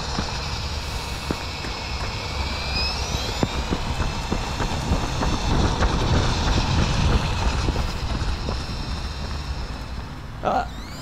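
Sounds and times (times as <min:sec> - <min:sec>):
electric motor whining: 0:00.0 - 0:11.0
low rumble: 0:00.0 - 0:11.0.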